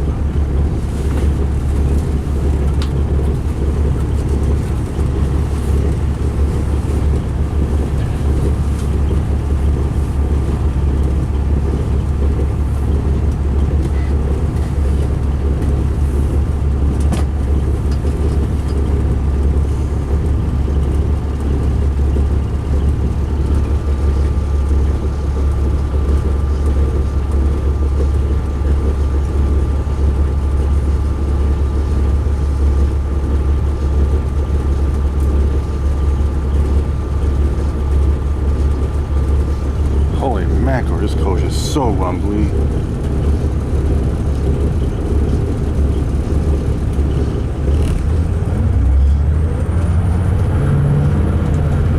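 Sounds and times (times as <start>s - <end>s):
diesel bus engine rumbling: 0.0s - 51.9s.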